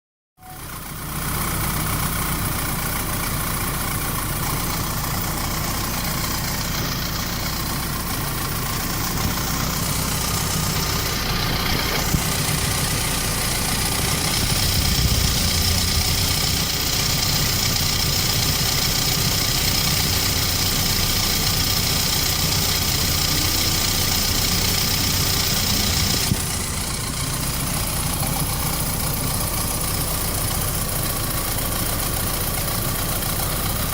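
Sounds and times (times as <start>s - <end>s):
car engine idling: 0.4s - 33.9s.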